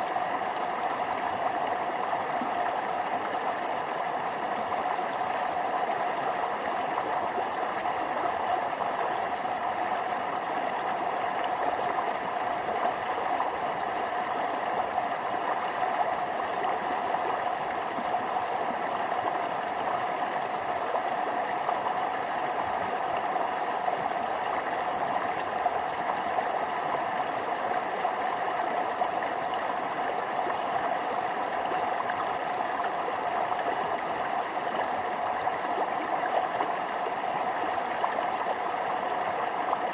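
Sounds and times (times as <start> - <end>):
stream flowing over small waterfalls: 0.0 - 39.9.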